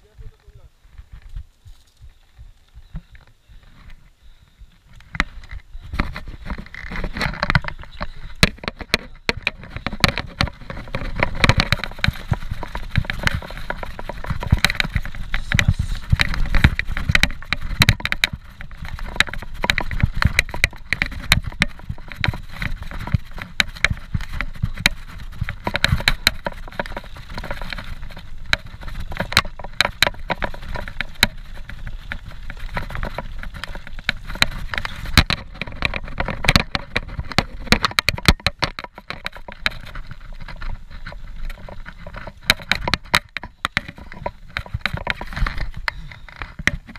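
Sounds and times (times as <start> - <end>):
bike tyres rumbling on gravel: 0.0 - 46.9
bike rattling and knocking: 4.6 - 46.9.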